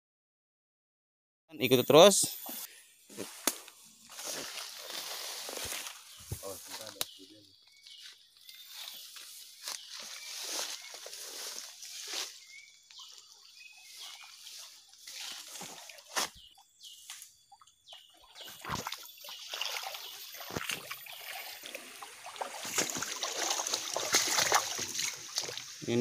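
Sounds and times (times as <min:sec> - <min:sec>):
undergrowth rustling: 0:02.5 - 0:17.4, 0:18.4 - 0:26.0
footsteps splashing through stream: 0:03.2 - 0:07.0, 0:07.9 - 0:17.3, 0:18.0 - 0:25.8.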